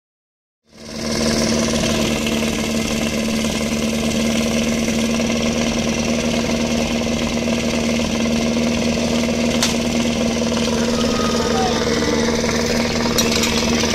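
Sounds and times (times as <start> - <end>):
pump engine idling: 0.7 - 13.9.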